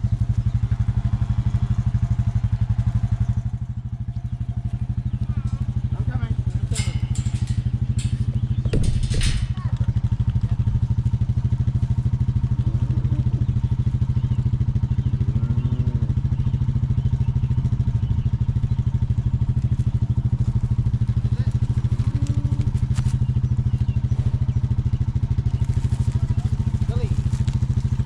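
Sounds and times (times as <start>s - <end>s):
farm vehicle engine running: 0.0s - 28.0s.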